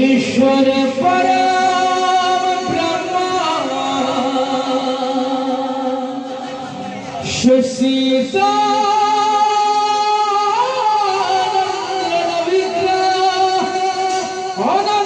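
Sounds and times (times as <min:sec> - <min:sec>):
person singing long held notes: 0:00.0 - 0:15.0.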